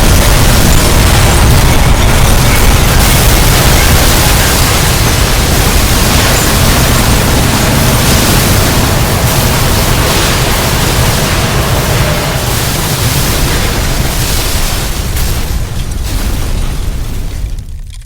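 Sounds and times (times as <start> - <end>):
earthquake rumble and crashing: 0.0 - 18.0.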